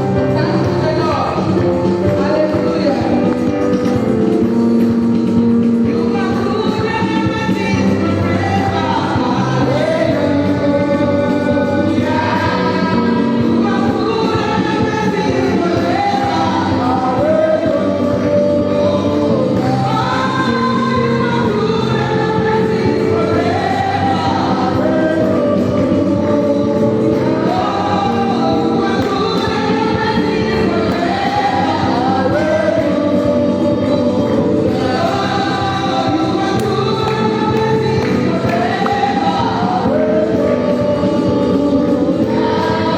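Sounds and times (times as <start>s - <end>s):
band accompaniment: 0.0s - 42.9s
choir singing gospel: 0.0s - 42.9s.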